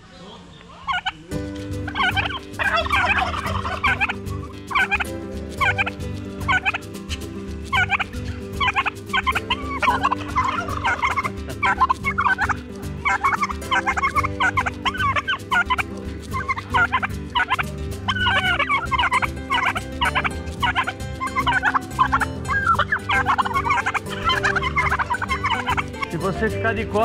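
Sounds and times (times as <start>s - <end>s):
turkeys gobbling: 0.5s - 26.8s.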